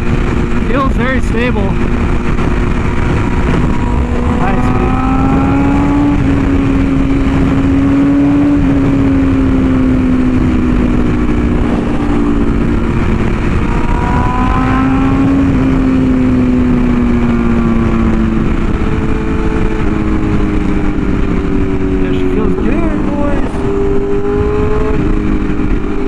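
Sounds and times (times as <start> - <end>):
motorcycle engine at high speed: 0.0 - 26.0
wind rush: 0.0 - 26.0.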